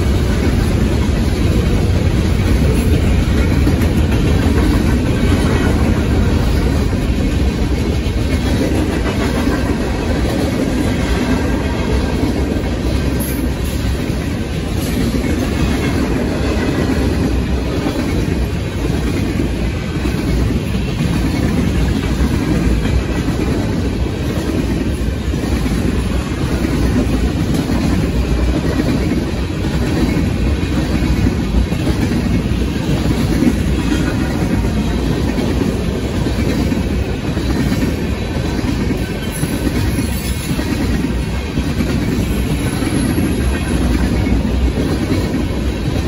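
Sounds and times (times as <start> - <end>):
freight train wheels on rails: 0.0 - 46.0.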